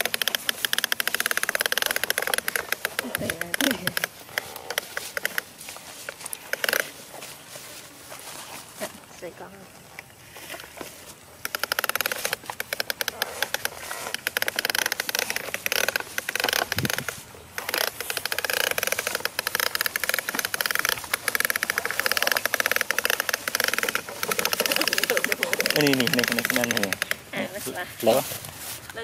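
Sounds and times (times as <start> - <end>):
toy truck wheels clattering on straw: 0.0 - 7.0, 10.4 - 27.4.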